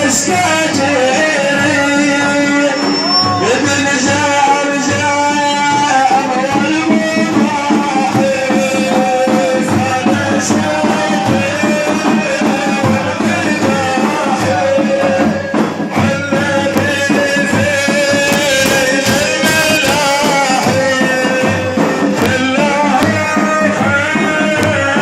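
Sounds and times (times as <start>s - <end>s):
hand drum beating: 3.4s - 25.0s.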